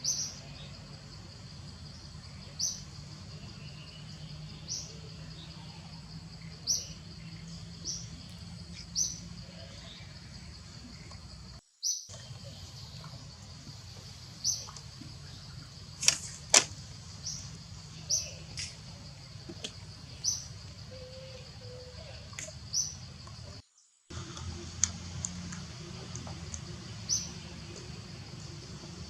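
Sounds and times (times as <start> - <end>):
bird chirping: 0.0 - 23.9, 24.6 - 29.0
low steady hum: 0.0 - 29.0.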